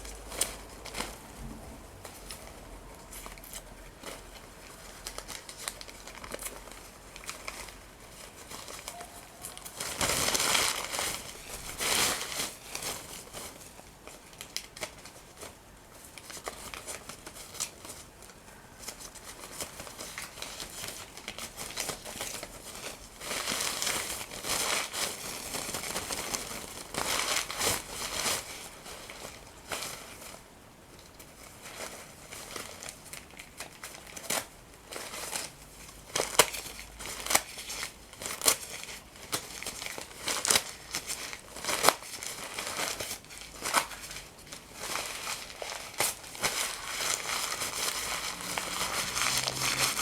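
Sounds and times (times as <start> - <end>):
paper crumpling and tearing: 2.0 - 18.2, 18.8 - 30.4, 31.2 - 50.0.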